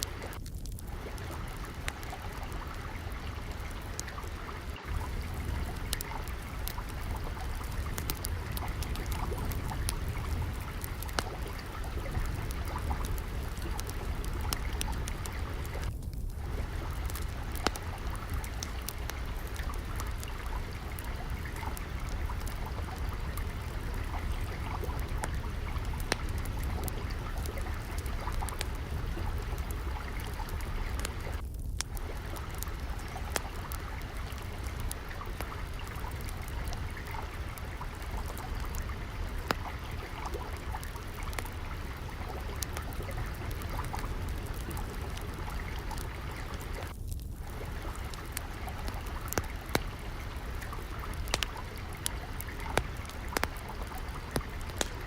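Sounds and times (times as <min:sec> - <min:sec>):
water trickling: 0:00.0 - 0:55.0
wood fire crackling: 0:00.0 - 0:55.0.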